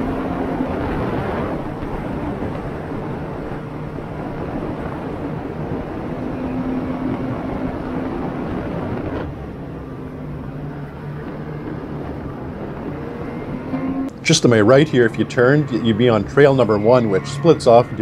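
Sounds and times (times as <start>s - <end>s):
rushing noise: 0.0s - 18.0s
snowmobile engine running: 0.0s - 18.0s.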